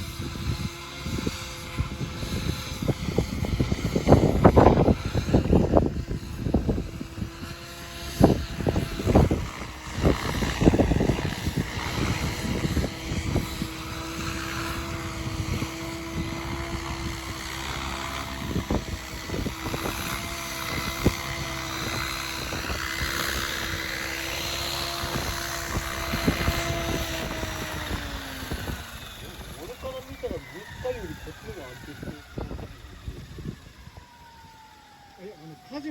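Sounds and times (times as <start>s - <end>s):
wind buffeting microphone: 0.0s - 35.1s
helicopter rotor running: 0.0s - 35.9s.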